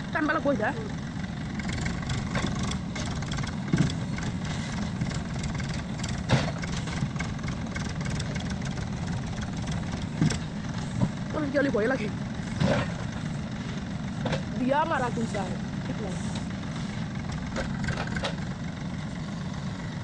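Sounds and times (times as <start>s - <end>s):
heavy vehicle engine rumbling: 0.0s - 20.0s.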